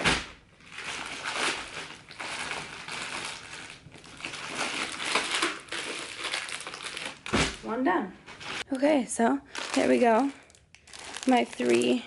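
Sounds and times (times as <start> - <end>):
plastic bags crinkling: 0.0 - 7.6, 9.4 - 12.0.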